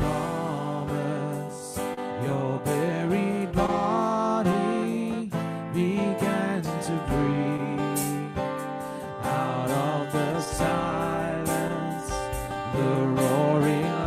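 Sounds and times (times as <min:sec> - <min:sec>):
drum kit steady beat: 0:00.0 - 0:05.1, 0:05.8 - 0:14.0
person singing: 0:00.0 - 0:14.0
strummed acoustic guitar: 0:00.0 - 0:14.0.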